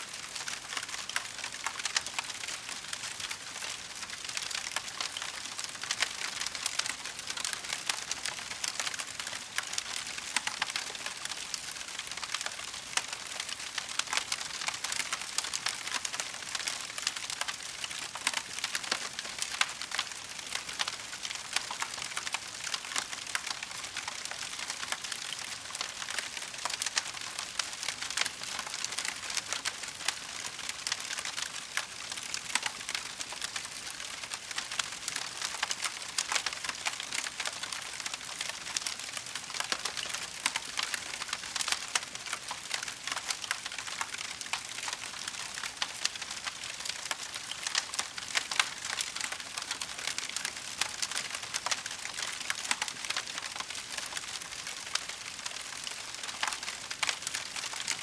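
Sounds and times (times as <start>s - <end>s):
wood fire crackling: 0.2s - 58.0s.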